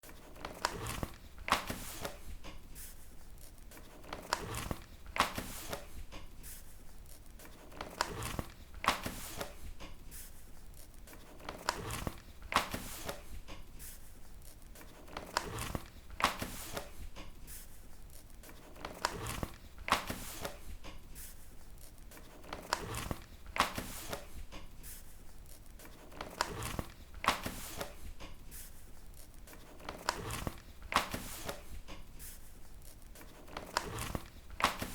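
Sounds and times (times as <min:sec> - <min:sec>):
paper pages turning: 0:00.0 - 0:34.9.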